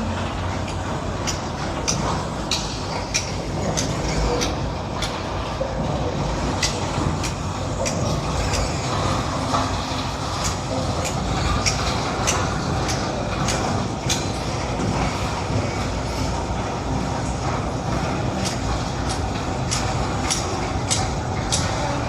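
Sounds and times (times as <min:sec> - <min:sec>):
road roller diesel engine running: 0:00.0 - 0:22.0.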